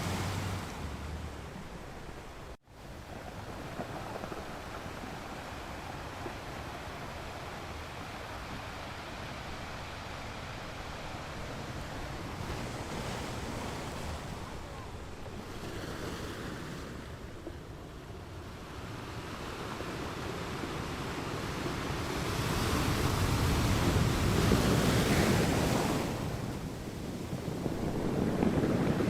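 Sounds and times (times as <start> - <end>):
waves washing in: 0.0 - 29.0.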